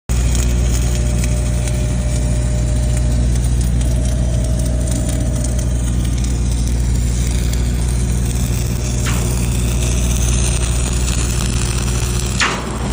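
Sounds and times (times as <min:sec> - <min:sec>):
welding arc crackling: 0:00.1 - 0:12.9
welding machine engine drone: 0:00.1 - 0:12.9.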